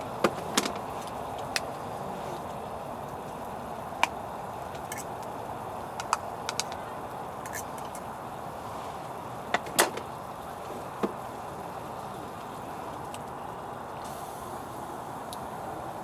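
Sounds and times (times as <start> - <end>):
campfire hissing and popping: 0.0 - 16.0.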